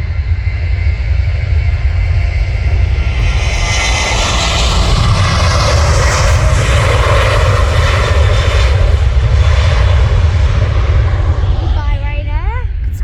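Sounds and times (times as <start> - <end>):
jet airliner roaring: 0.0 - 13.0.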